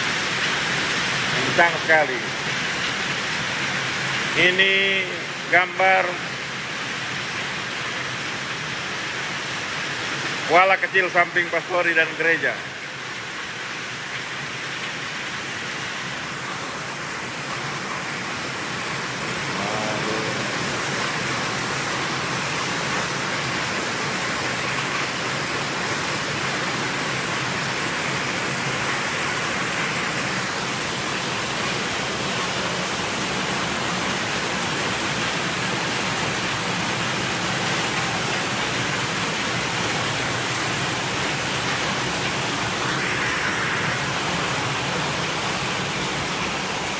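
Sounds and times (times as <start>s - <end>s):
flooded creek water rushing: 0.0s - 46.9s.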